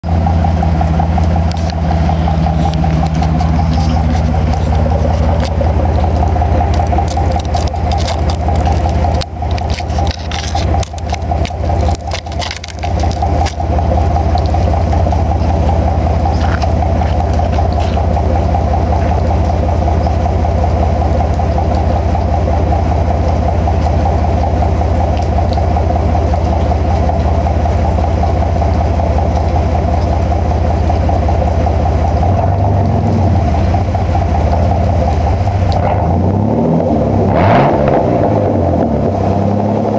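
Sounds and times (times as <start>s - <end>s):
pickup engine running loudly: 0.0s - 39.9s.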